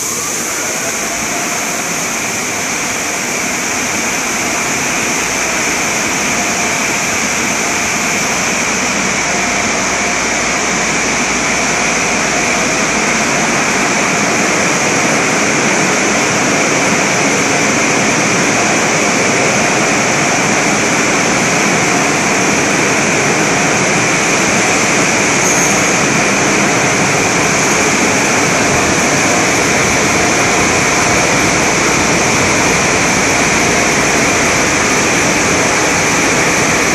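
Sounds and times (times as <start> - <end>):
dryer blowers rushing air: 0.0 - 36.9.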